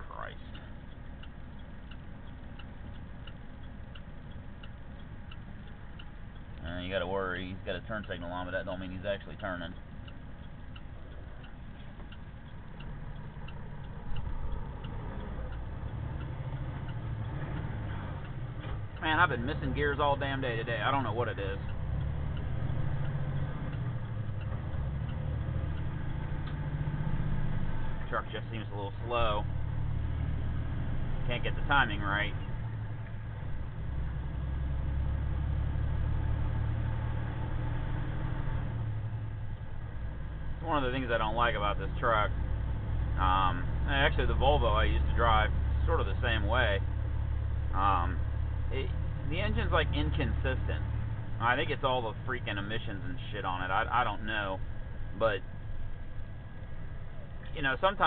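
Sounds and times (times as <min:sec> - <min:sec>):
road noise: 0:00.0 - 0:58.0
truck engine running: 0:00.0 - 0:58.0
turn signal ticking: 0:00.0 - 0:58.0.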